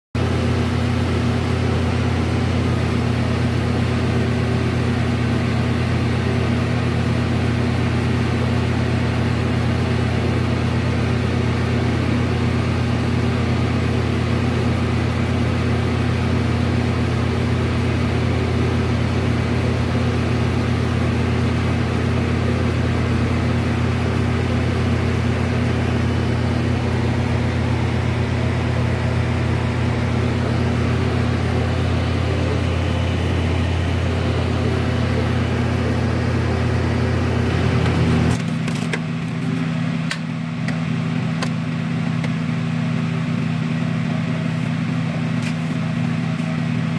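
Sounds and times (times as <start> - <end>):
low machine hum: 0.2 - 46.9.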